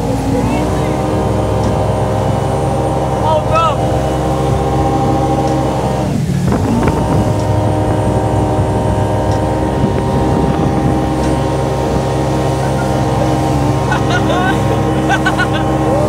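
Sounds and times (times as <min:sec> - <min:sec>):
motorboat engine drone: 0:00.0 - 0:16.0
wind noise on microphone: 0:00.0 - 0:16.0.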